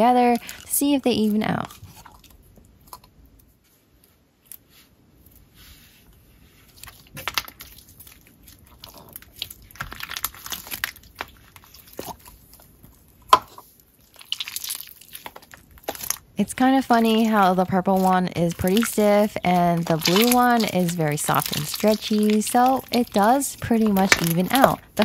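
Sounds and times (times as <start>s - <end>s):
slime squishing and crackling: 0.0s - 3.1s, 6.6s - 25.0s.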